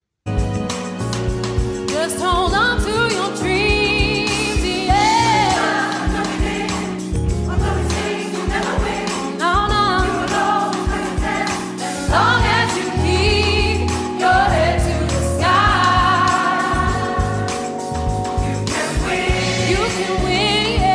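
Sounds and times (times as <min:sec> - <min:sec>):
low instrumental accompaniment: 0:02.4 - 0:20.9
gospel choir singing: 0:03.8 - 0:20.9.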